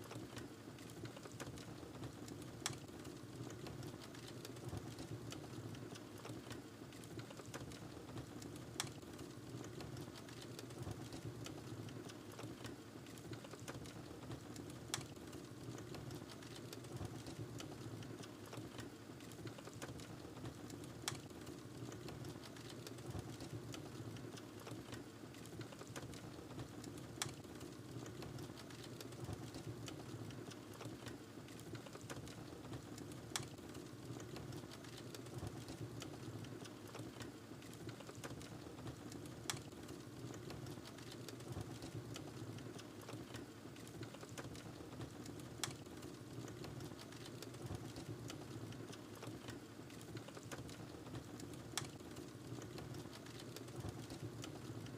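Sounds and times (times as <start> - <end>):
small fire crackles: 0.0 - 54.9
wood fire burning: 0.2 - 54.9.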